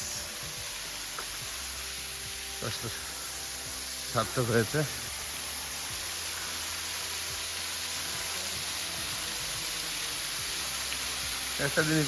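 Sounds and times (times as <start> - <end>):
waterfall hissing: 0.0 - 12.0.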